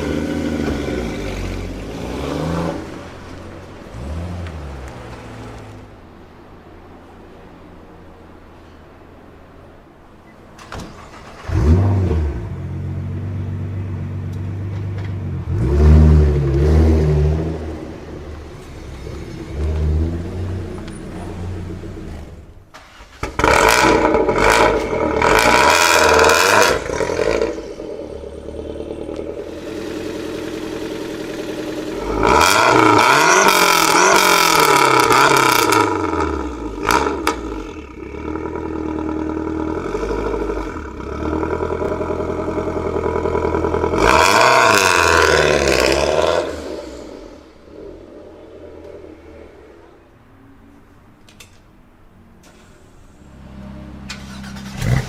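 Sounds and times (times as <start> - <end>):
car engine revving: 0.0 - 6.5, 11.0 - 50.0, 53.3 - 55.0.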